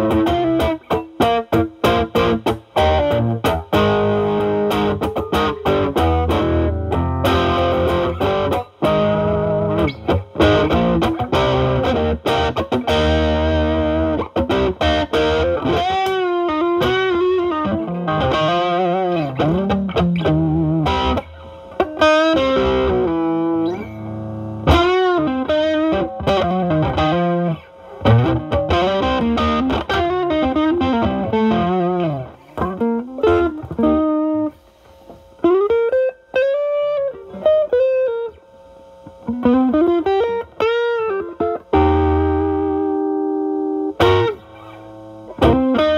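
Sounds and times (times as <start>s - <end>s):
overdriven electric guitar: 0.0s - 45.9s.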